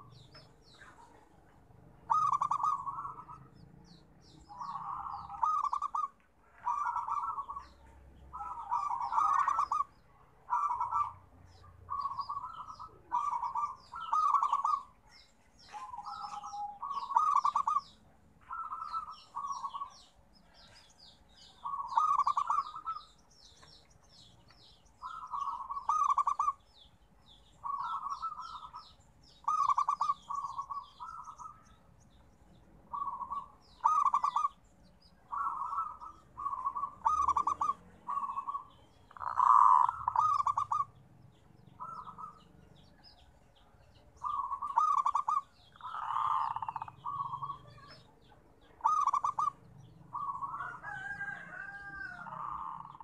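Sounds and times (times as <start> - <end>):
dove cooing: 0.0 - 3.6, 4.4 - 23.2, 25.0 - 26.7, 27.4 - 31.8, 32.9 - 34.6, 35.2 - 41.0, 41.7 - 43.3, 44.2 - 53.0
small birds chirping: 0.0 - 53.0.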